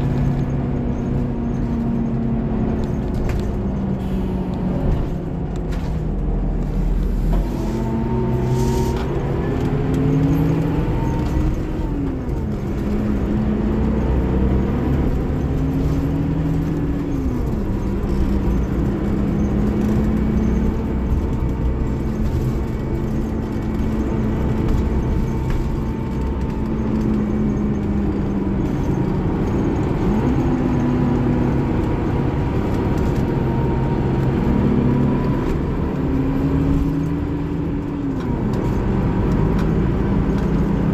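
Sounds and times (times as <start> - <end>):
bus diesel engine: 0.0 - 40.9.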